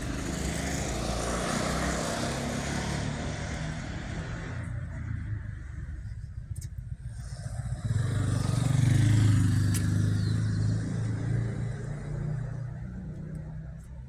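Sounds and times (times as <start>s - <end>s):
vehicle engine passing close: 0.0s - 6.2s, 6.9s - 13.9s
street traffic: 0.0s - 14.0s.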